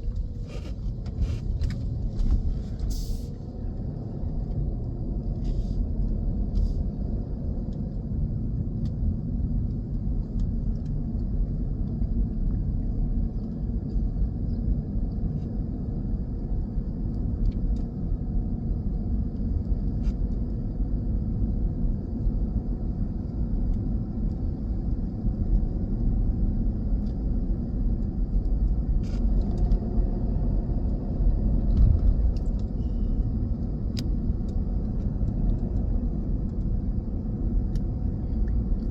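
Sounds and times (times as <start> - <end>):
car driving interior rumble: 0.0 - 38.9.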